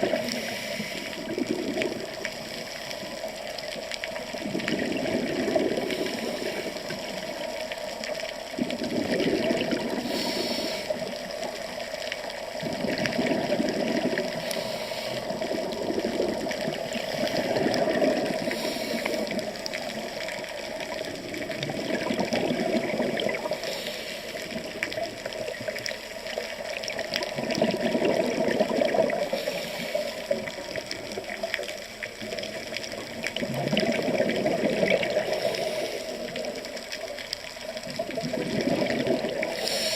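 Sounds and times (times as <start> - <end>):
water rushing and bubbling: 0.0 - 39.9.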